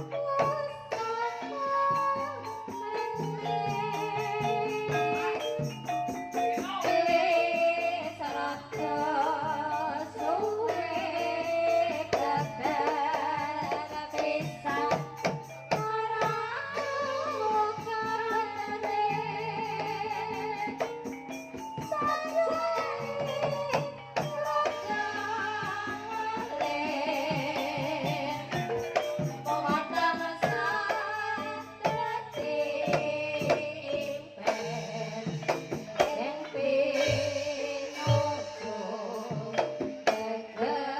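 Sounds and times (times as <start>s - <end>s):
steady percussion: 0.0s - 40.9s
woman singing: 0.0s - 40.9s.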